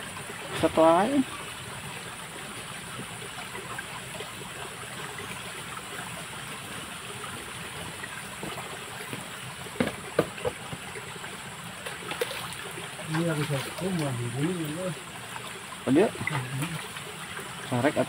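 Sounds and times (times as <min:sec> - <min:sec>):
stream water trickling: 0:00.0 - 0:18.0.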